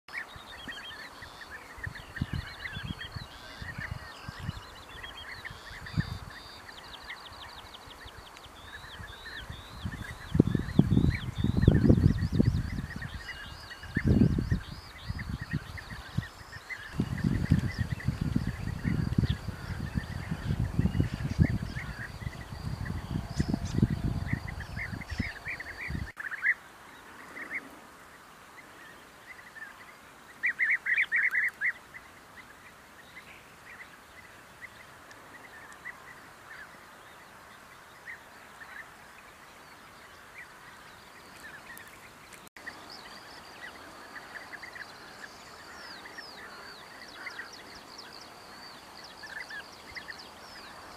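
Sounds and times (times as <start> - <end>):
birds calling: 0.1 - 50.9.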